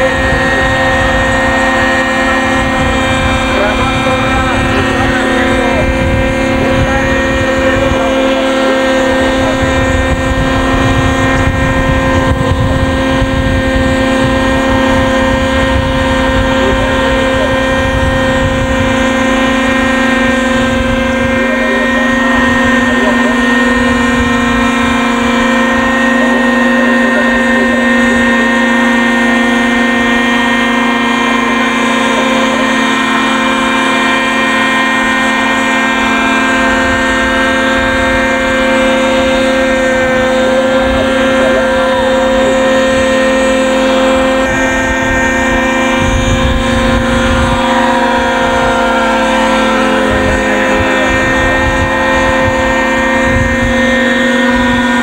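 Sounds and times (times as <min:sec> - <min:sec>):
model helicopter engine running: 0:00.0 - 0:55.0.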